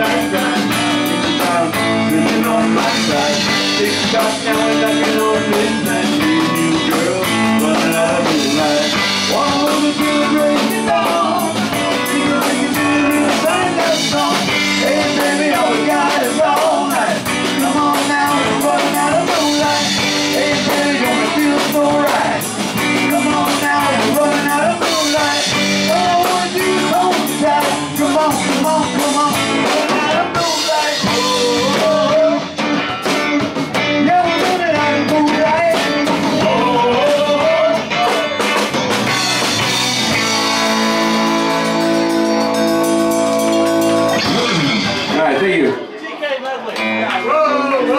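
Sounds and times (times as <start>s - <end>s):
live rock band music: 0.0s - 47.9s.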